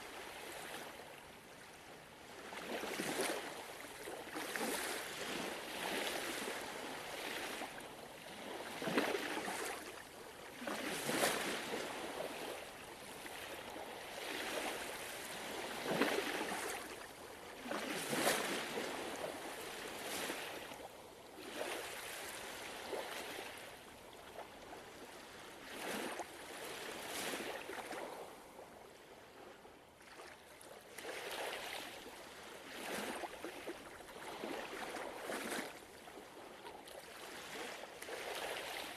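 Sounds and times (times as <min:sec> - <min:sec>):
gentle ocean waves washing in: 0:00.0 - 0:38.9.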